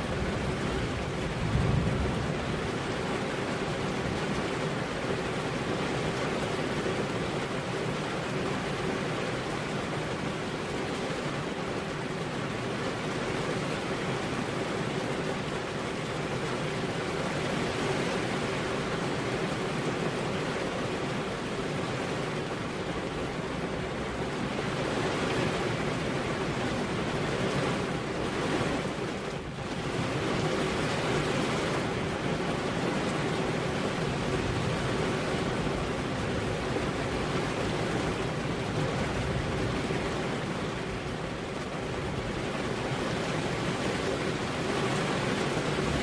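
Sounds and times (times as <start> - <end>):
steady rain: 0.0 - 46.0
wind: 0.0 - 46.0.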